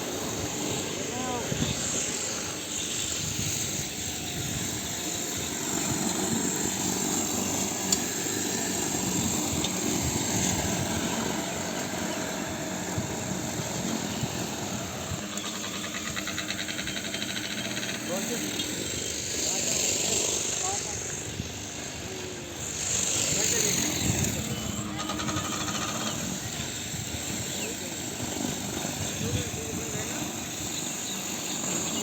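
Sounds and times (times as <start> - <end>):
lawn mower engine running: 0.0 - 32.0.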